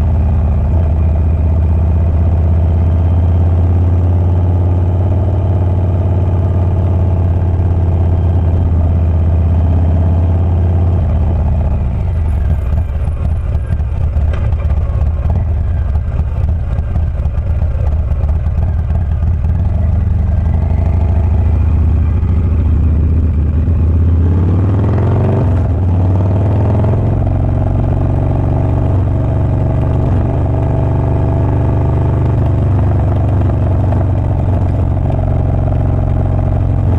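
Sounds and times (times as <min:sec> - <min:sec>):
motorcycle engine exhaust: 0:00.0 - 0:36.9.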